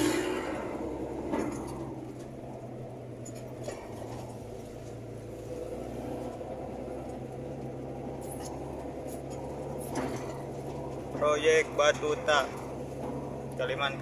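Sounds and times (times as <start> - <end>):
heavy vehicle engine drone: 0.0 - 14.0.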